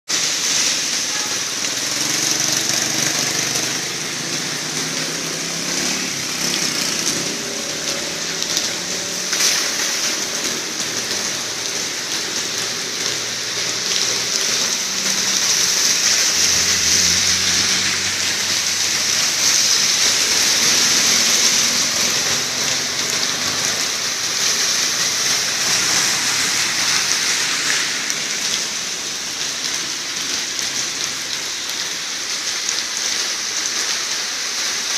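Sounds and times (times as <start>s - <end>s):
rain falling on street: 0.1s - 34.9s
car driving through water: 0.2s - 34.9s
motorcycle through water: 0.2s - 34.9s.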